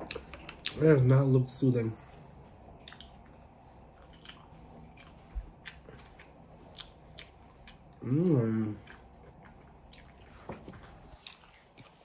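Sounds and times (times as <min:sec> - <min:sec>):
faint chewing: 0:00.0 - 0:01.0, 0:02.0 - 0:12.0.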